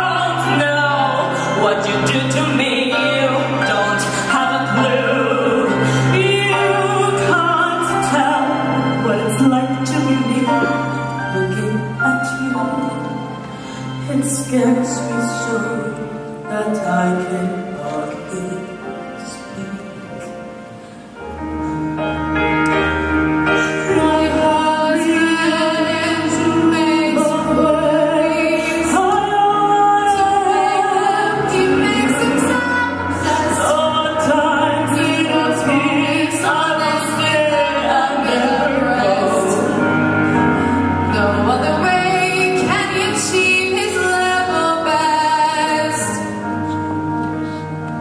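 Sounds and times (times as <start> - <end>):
women singing with vibrato: 0.0 - 20.4, 23.3 - 46.8
band playing: 0.0 - 48.0.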